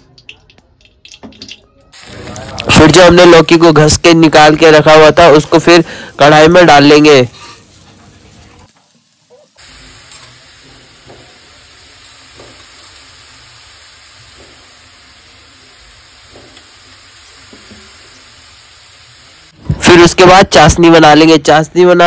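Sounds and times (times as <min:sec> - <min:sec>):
food sizzling in pan: 0:01.9 - 0:21.0.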